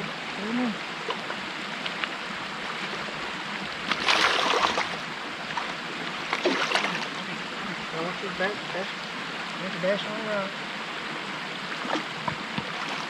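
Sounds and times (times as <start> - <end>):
water splashing: 0.0 - 10.1, 11.6 - 13.0
creek water running: 0.0 - 13.0.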